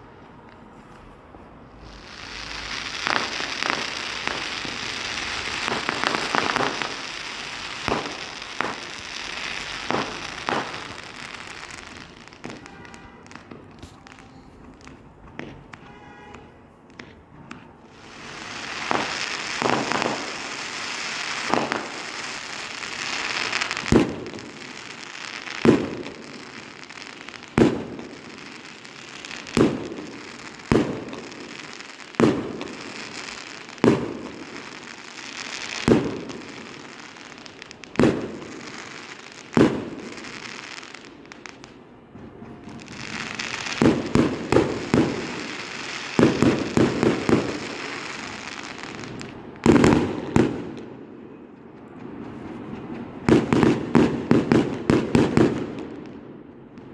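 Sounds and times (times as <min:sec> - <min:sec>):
firework bangs: 0:00.0 - 0:56.9
fireworks hissing and crackling: 0:00.0 - 0:56.9.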